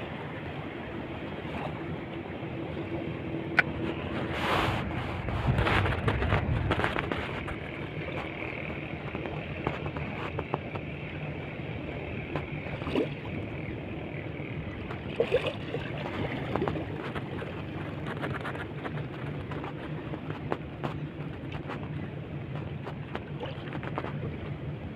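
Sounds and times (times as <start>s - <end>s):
boat motor humming: 0.0s - 24.9s
wind noise: 2.7s - 11.1s, 12.0s - 24.9s.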